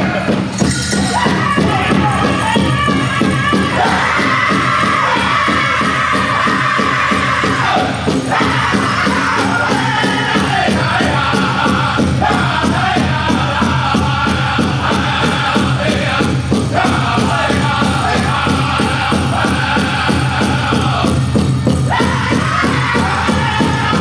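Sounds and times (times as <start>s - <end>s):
big drum beating fast: 0.0s - 24.0s
group singing in high voices: 0.0s - 24.0s.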